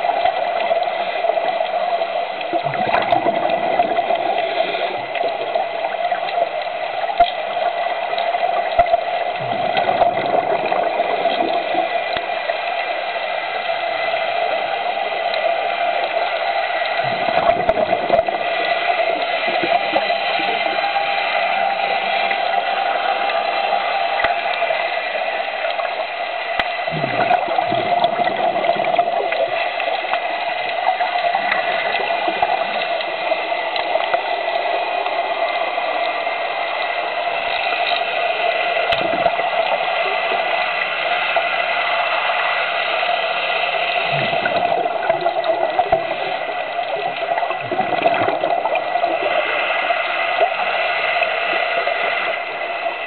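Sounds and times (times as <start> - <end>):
low water surges: 0.0 - 53.0
underwater water noise: 0.0 - 53.0.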